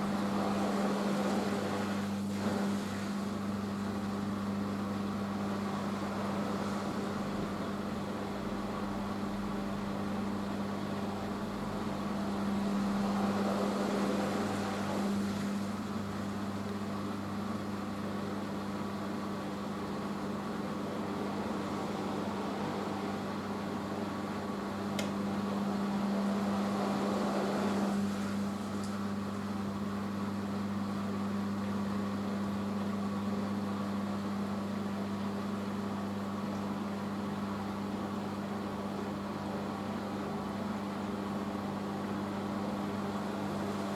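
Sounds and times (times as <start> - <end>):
washing machine spin hum: 0.0 - 43.9.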